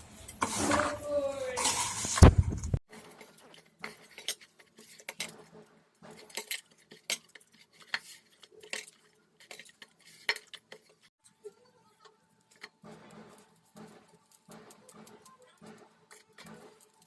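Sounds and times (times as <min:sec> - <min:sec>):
dough being mixed in a bowl: 0:00.0 - 0:17.0.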